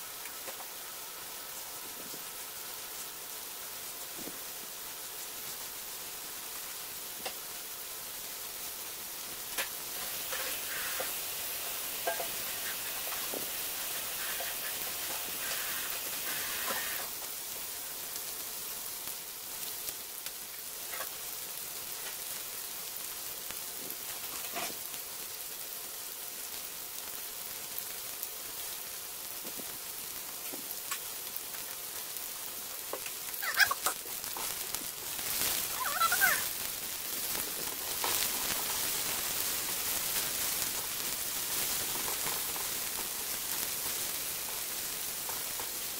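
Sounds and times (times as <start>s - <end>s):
mushrooms sizzling in frying pan: 0.0s - 45.9s
small pops and crackles: 0.1s - 0.9s, 1.6s - 45.9s.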